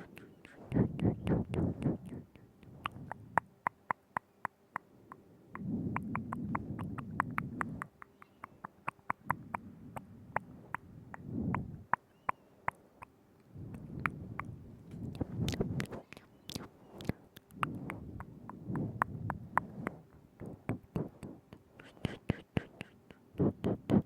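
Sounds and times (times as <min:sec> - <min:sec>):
soft moist mouth noise: 0:00.0 - 0:24.0
wet tongue and lip clicks: 0:00.0 - 0:24.0.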